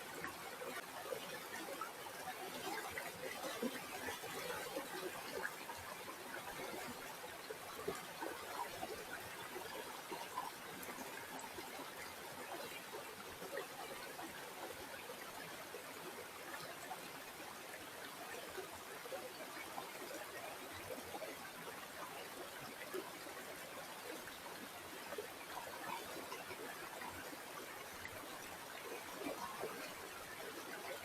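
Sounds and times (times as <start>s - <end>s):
stream flowing over stones: 0.0s - 31.0s.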